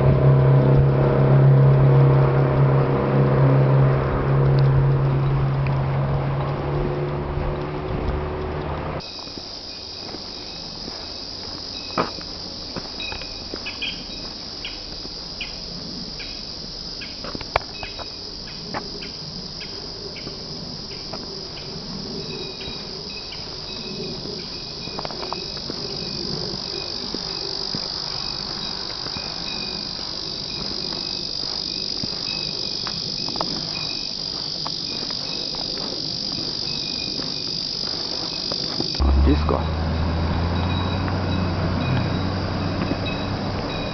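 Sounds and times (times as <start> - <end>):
high-pitched insect chorus: 0.1 - 43.9
insect chirping: 0.2 - 43.9.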